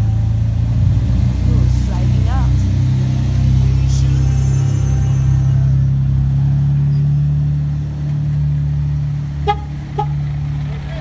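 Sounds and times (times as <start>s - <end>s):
trucks passing by: 0.0s - 11.0s.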